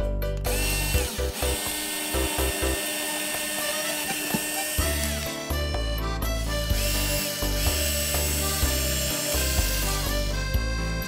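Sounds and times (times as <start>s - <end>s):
background music: 0.0s - 11.0s
electric drill whining: 0.4s - 11.0s.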